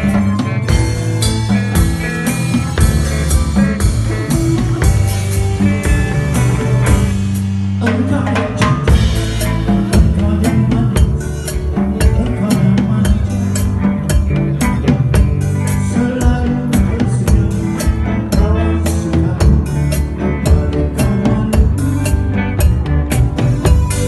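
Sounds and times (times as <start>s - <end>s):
bass guitar: 0.0s - 24.0s
drum kit beat: 0.0s - 24.0s
electric guitar: 0.0s - 24.0s.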